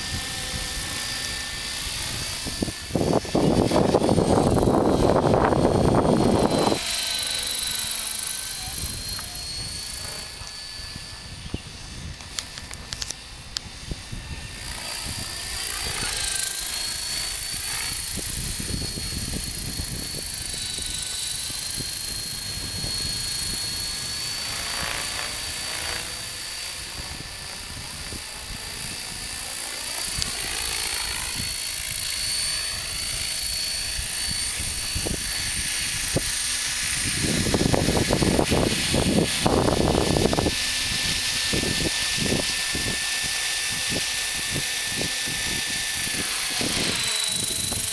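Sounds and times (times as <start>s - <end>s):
model helicopter whine: 0.0s - 47.9s.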